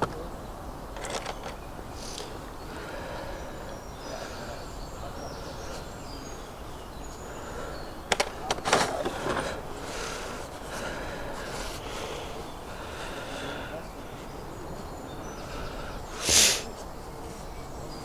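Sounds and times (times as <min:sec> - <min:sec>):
small birds singing: 0:00.0 - 0:18.0.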